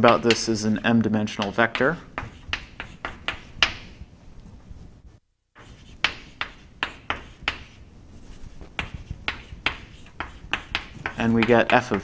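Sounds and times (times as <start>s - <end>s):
chalk tapping and scratching: 0.0s - 4.0s, 5.6s - 12.0s.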